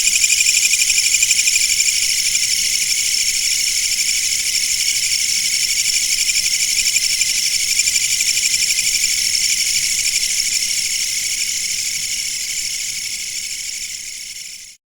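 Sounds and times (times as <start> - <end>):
insects trilling: 0.0 - 14.8.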